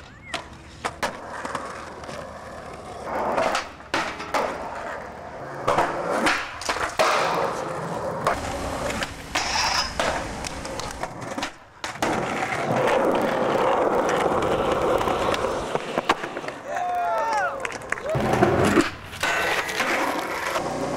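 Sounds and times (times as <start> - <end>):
skateboard clacks and landings: 0.0 - 16.7, 17.7 - 20.9
skateboard wheels rolling on concrete: 0.0 - 20.9.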